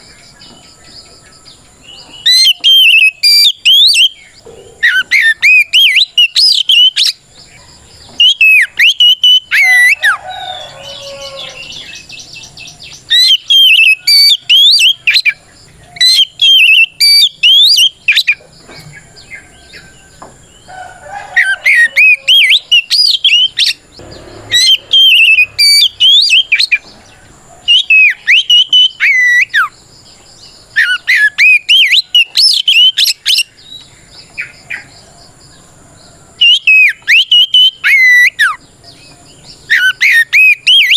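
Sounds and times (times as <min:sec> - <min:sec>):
bird singing whistled notes: 0:00.0 - 0:20.7, 0:21.4 - 0:40.9.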